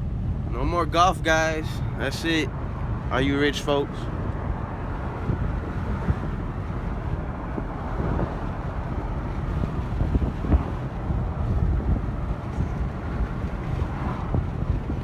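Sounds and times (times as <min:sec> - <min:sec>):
car road noise rumble: 0:00.0 - 0:15.0
wind buffeting microphone: 0:00.0 - 0:15.0.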